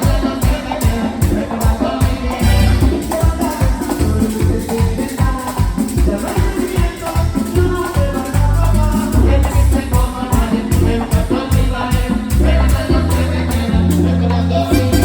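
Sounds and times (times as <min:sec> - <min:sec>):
heavy bass notes: 0:00.0 - 0:05.4, 0:06.0 - 0:15.0
live merengue band music: 0:00.0 - 0:15.0.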